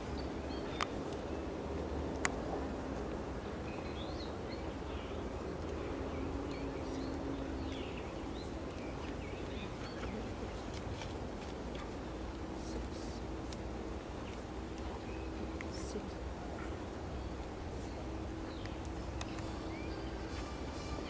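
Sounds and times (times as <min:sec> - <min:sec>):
small birds chirping: 0:00.0 - 0:02.4, 0:03.4 - 0:21.0
low outdoor background noise: 0:00.0 - 0:21.0.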